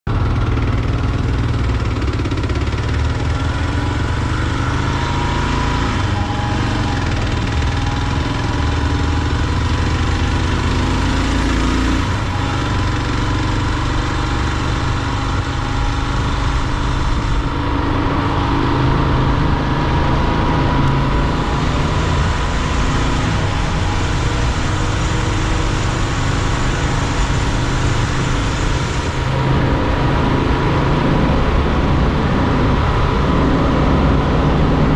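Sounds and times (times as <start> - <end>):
motorcycle engine running: 0.1 - 34.9
road noise rush: 0.1 - 34.9.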